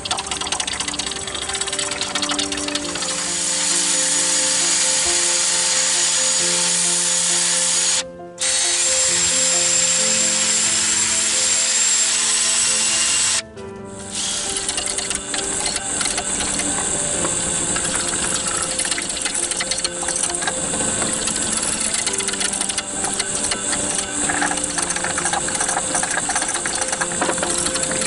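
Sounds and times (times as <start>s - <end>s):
wood lathe cutting rattle: 0.0s - 28.0s.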